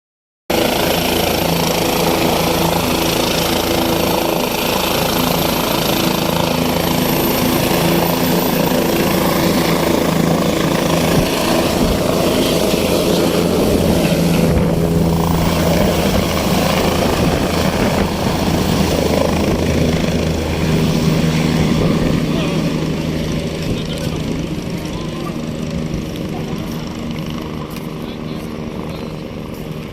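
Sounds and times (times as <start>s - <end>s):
helicopter rotor and engine drone: 0.5s - 29.9s.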